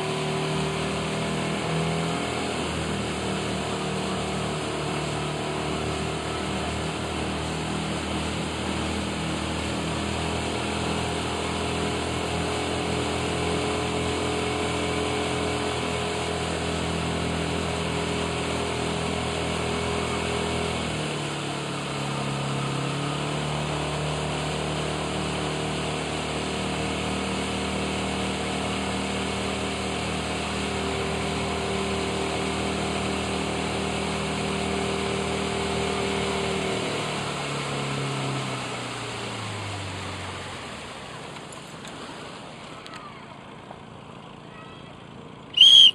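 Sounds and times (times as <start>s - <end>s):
motorboat engine running: 0.0s - 45.9s
wind: 0.0s - 45.9s.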